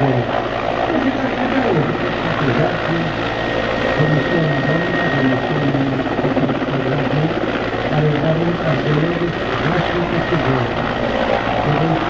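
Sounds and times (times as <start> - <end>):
helicopter rotor and engine noise: 0.0 - 12.0.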